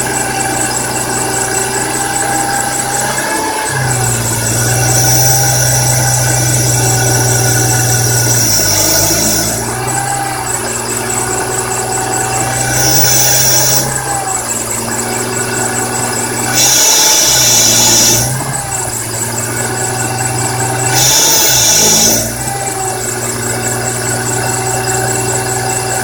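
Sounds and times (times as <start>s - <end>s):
car engine running: 0.0s - 26.0s
high-pitched scraping chirp: 0.0s - 26.0s.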